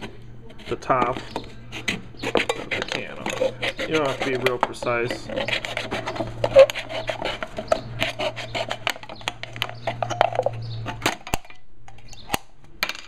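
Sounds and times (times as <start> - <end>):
knife sawing through aluminium can: 0.0 - 11.0.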